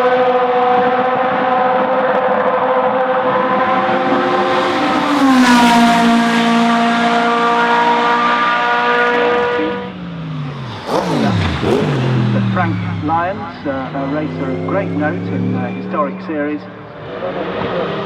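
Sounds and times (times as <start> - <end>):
racing cars passing at speed: 0.0 - 18.0.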